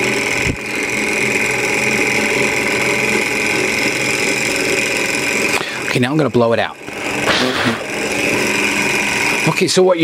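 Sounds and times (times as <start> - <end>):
stirling engine whirring: 0.0 - 10.0.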